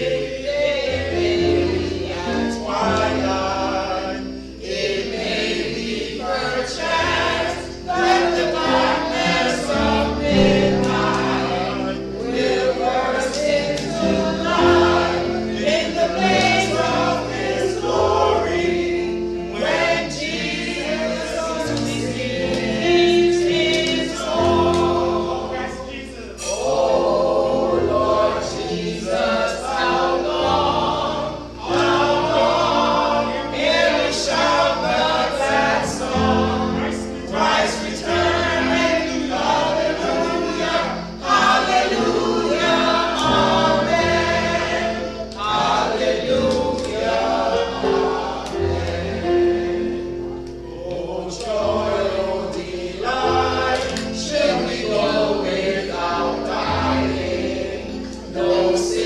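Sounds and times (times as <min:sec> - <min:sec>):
choir singing a hymn: 0:00.0 - 0:59.0
instrumental accompaniment: 0:00.0 - 0:59.0.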